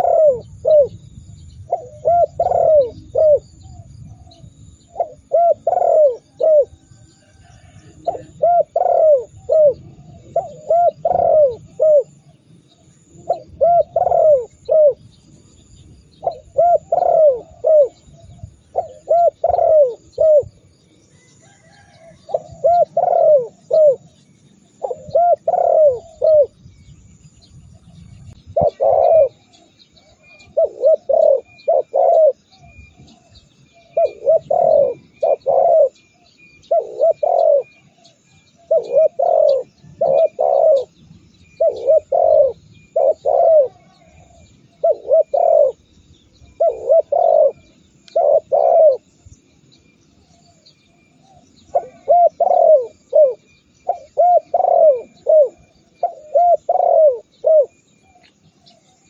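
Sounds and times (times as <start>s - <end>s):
dove cooing: 0.0s - 26.7s, 27.9s - 49.2s, 50.2s - 59.0s.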